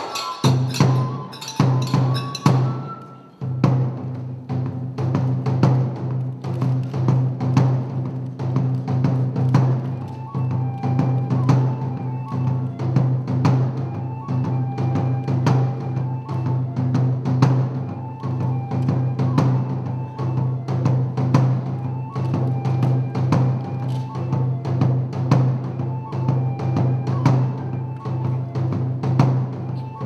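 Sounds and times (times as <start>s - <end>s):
high bamboo flute: 0.0s - 3.9s, 9.0s - 30.0s
drum beaten in steady rhythm: 0.0s - 30.0s.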